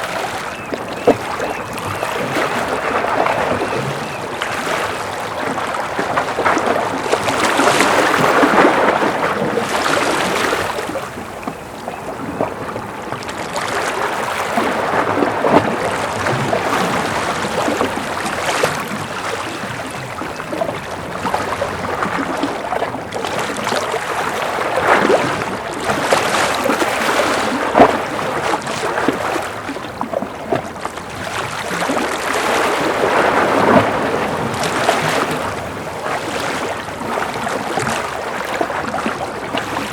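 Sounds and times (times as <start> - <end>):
waves lapping against concrete: 0.0 - 39.9.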